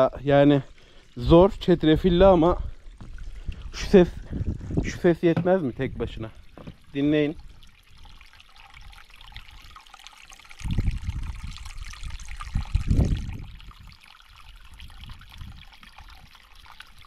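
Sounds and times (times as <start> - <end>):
stream rushing and trickling: 0.0 - 17.0.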